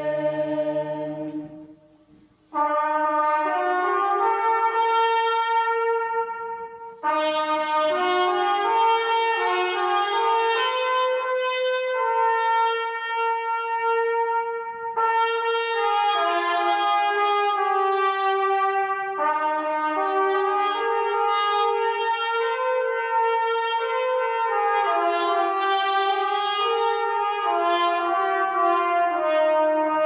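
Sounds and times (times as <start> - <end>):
brass ensemble playing slowly: 0.0 - 30.0.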